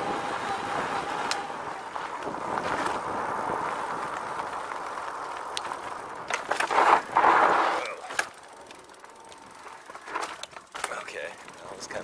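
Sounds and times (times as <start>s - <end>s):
tyres rolling on dirt: 0.0s - 12.0s.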